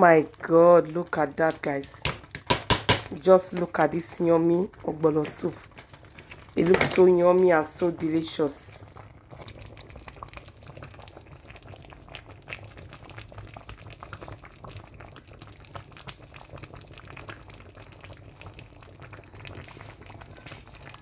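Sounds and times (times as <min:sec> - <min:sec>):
soup bubbling in a pot: 0:00.0 - 0:21.0.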